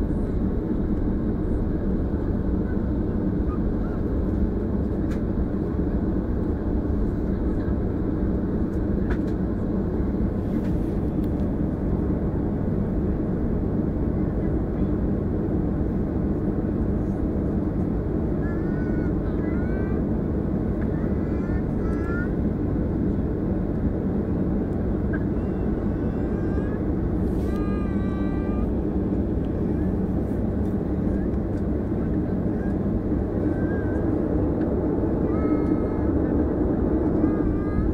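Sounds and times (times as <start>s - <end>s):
airliner engine and cabin rumble: 0.0s - 37.9s.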